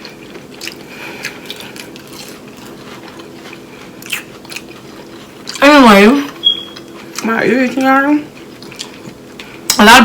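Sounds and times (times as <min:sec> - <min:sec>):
crunchy fried food being chewed: 0:00.0 - 0:09.8.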